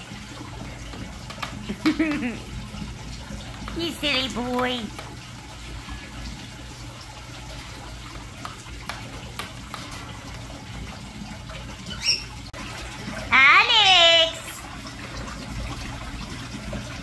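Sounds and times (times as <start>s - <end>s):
fountain trickling: 0.0s - 17.0s.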